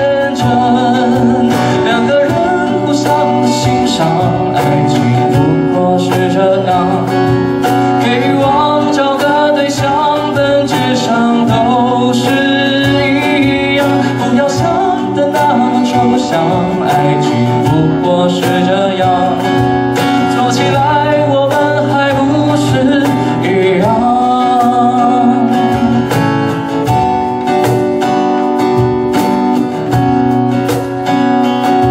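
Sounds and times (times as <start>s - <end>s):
person singing: 0.0s - 27.6s
acoustic guitar strumming: 0.0s - 31.9s.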